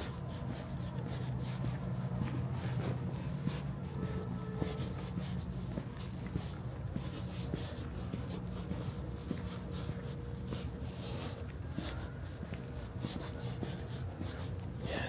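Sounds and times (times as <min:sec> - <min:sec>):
scratchy footsteps: 0:00.0 - 0:15.0
steady low hum: 0:00.0 - 0:15.0.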